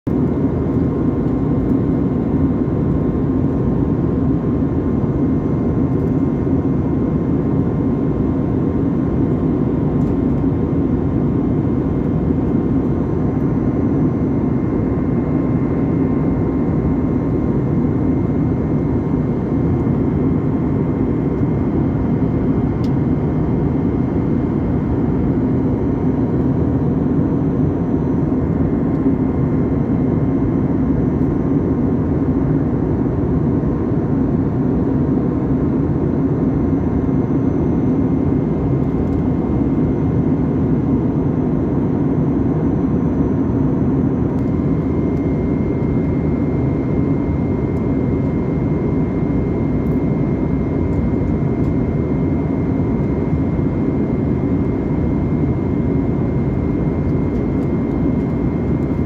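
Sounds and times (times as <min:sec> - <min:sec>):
jet cabin engine and airflow rush: 0:00.1 - 0:59.0.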